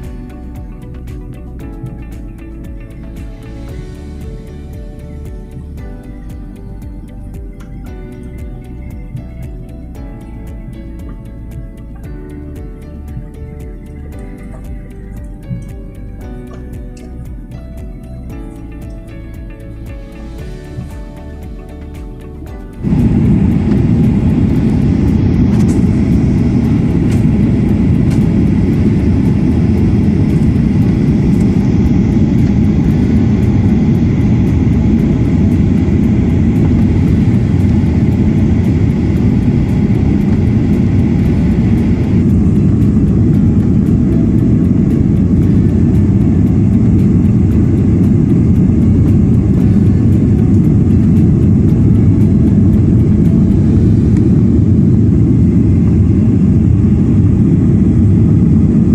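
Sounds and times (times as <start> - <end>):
faint high whine: 0.0 - 58.9
jet engine and airflow rumble: 0.0 - 58.9.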